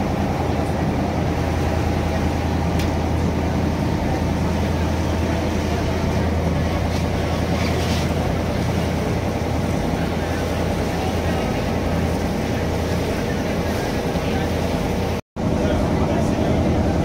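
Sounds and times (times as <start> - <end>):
boat engine running: 0.0 - 17.0
water wash: 0.0 - 17.0.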